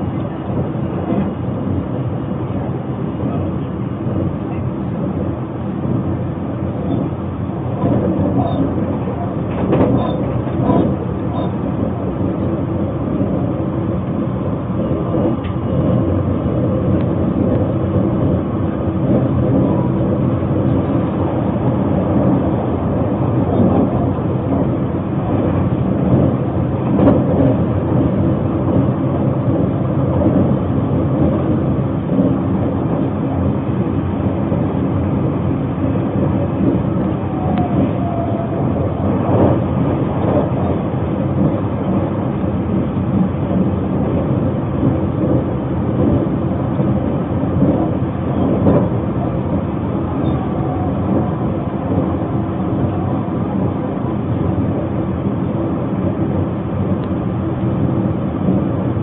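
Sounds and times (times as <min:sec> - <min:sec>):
train running noise inside car: 0:00.0 - 0:59.0.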